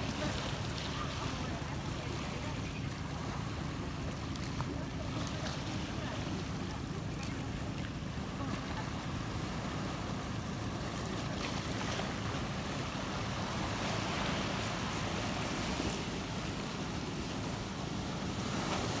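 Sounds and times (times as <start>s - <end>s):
waves breaking on rocks: 0.0s - 19.0s.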